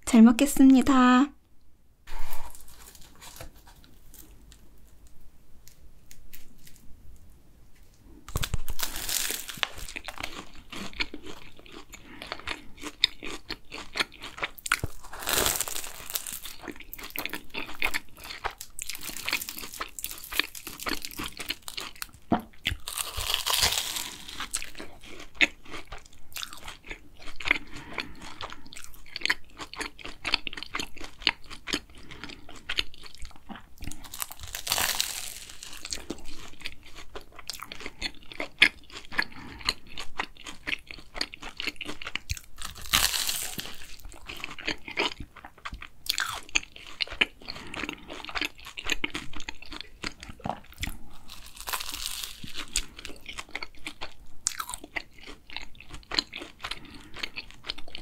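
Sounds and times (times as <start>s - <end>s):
pastry crunching: 2.1s - 58.0s
wet chewing: 8.3s - 58.0s.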